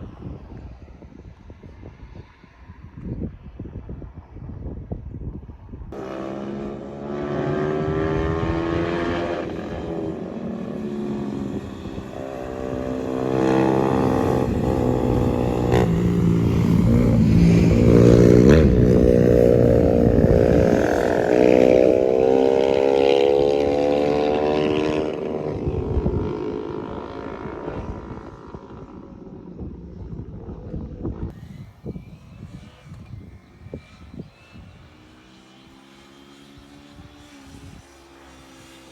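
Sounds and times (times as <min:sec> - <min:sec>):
engine passing by: 0:05.9 - 0:38.9.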